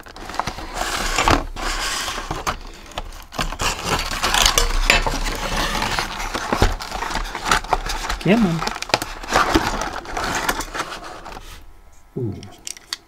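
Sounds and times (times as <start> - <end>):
cardboard rustling and scraping: 0.0 - 11.6.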